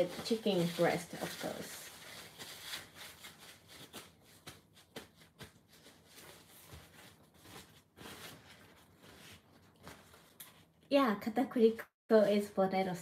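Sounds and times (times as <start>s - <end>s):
paper towel rustling and crinkling: 0.0s - 10.8s.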